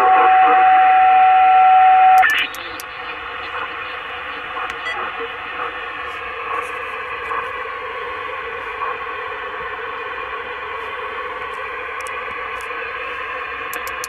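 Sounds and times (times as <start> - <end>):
radio static hiss: 0.0 - 0.9, 2.2 - 14.0.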